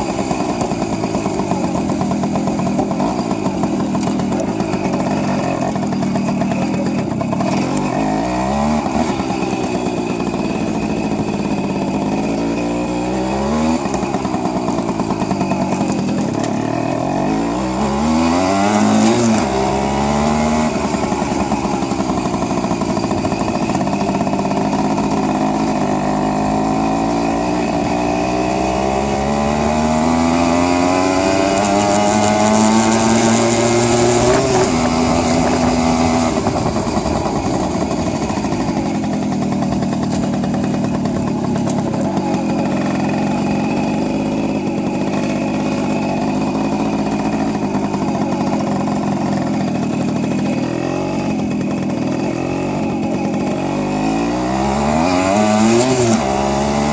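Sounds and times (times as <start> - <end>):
moped two-stroke engine running: 0.0 - 56.9.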